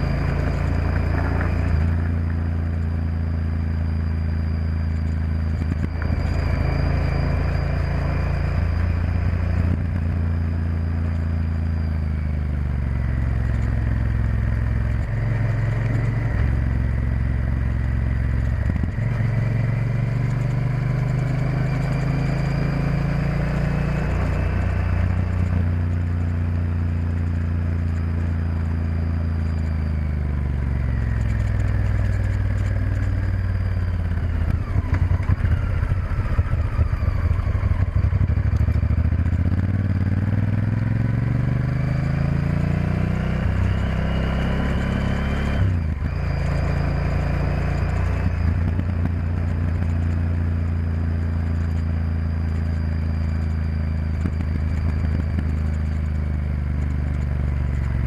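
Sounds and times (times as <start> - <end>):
motorcycle engine while riding: 0.0 - 58.0.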